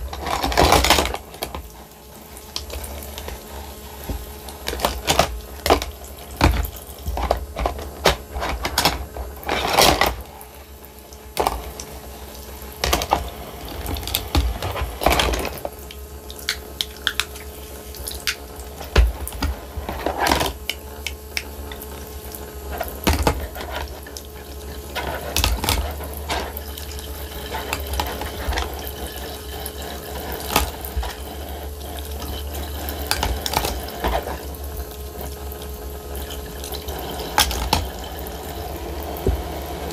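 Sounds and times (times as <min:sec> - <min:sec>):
plastic dishes clacking: 0:00.0 - 0:01.7, 0:04.1 - 0:10.3, 0:11.3 - 0:11.9, 0:12.7 - 0:15.8, 0:16.4 - 0:31.4, 0:32.1 - 0:34.7, 0:36.2 - 0:39.9
water running from faucet: 0:00.0 - 0:39.9.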